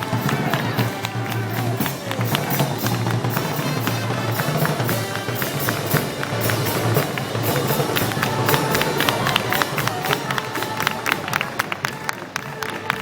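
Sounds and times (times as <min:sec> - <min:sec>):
drums and cymbals beat: 0:00.0 - 0:12.3
festival band music: 0:00.0 - 0:13.0.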